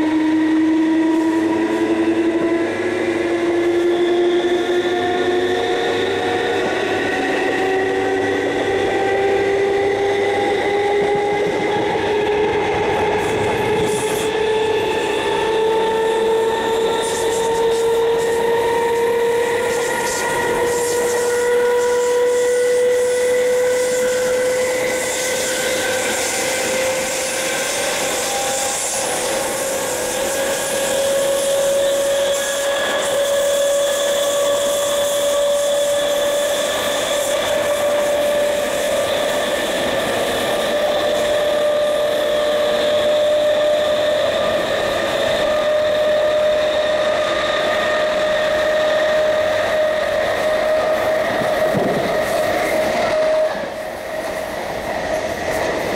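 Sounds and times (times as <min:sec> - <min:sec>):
electric train motors whining: 0:00.0 - 0:55.9
train running hiss: 0:00.0 - 0:55.9.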